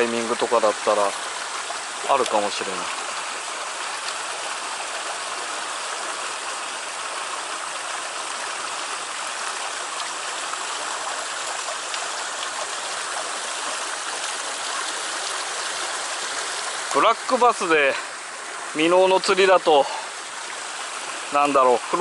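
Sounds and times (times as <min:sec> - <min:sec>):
stream water rushing over rocks: 0:00.0 - 0:22.0.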